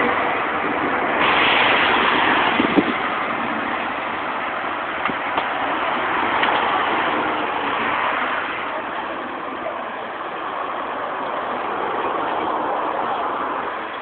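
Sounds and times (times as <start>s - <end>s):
street traffic rushing: 0.0s - 14.0s.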